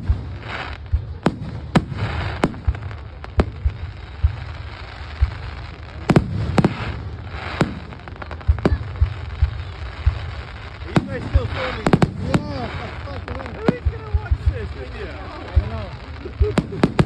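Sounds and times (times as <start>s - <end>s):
crackling hiss: 0.0s - 17.0s
firework shells bursting: 0.0s - 17.0s
steady low rumble: 0.0s - 17.0s.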